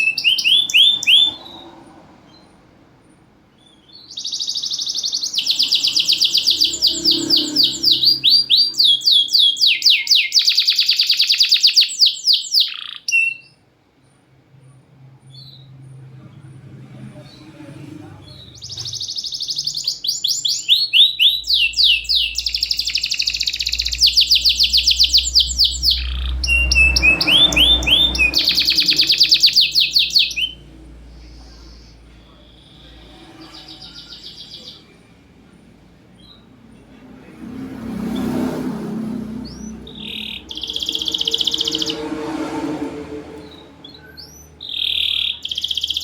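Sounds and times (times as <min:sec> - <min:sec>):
canary singing trills: 0:00.0 - 0:16.5, 0:17.2 - 0:36.9, 0:37.8 - 0:42.3, 0:43.4 - 0:46.0.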